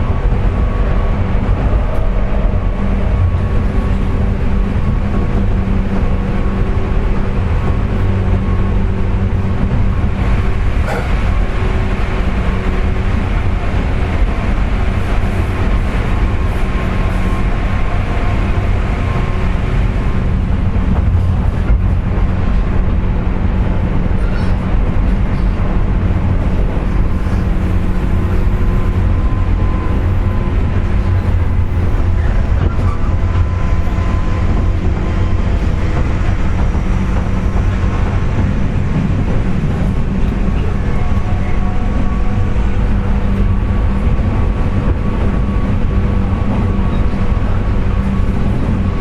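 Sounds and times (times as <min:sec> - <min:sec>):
train motor whine: 0:00.0 - 0:49.0
train wheels rumbling on rail: 0:00.0 - 0:49.0.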